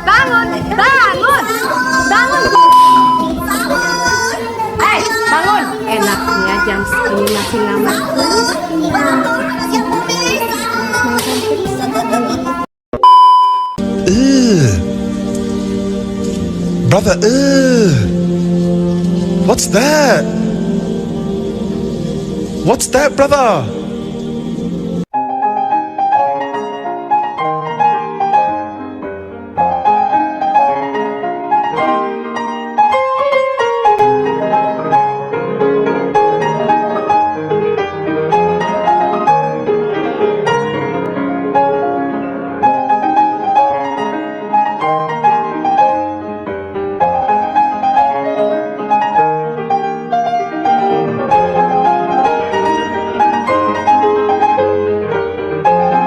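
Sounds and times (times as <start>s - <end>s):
solo piano music: 0.0s - 10.6s, 13.8s - 56.0s.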